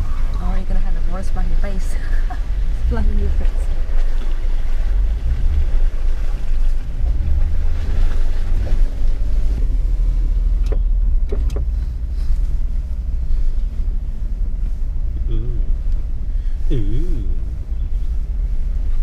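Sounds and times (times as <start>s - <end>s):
vehicle engine rumble: 0.0s - 19.0s
water splashing against vehicle: 0.0s - 19.0s.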